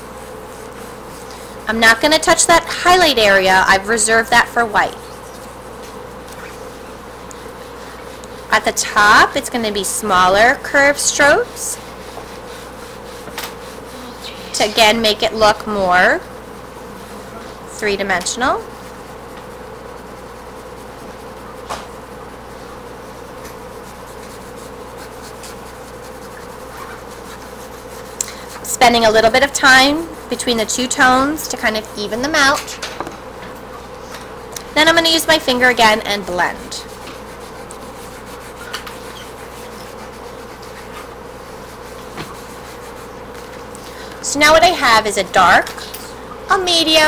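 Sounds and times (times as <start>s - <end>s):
background hum with held tone: 0.0s - 47.0s
pencil scratching on paper: 0.1s - 32.6s, 34.8s - 43.7s.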